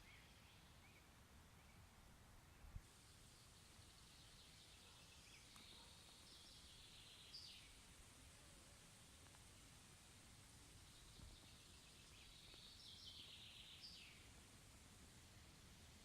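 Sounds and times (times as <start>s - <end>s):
faint distant birdsong: 0.0s - 16.0s.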